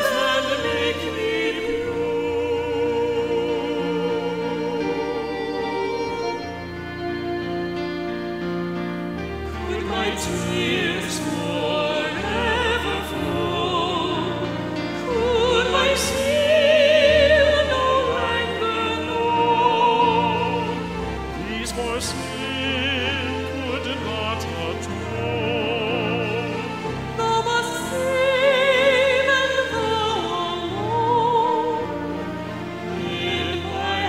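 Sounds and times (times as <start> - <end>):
classical solo voice singing: 0.0 - 34.0.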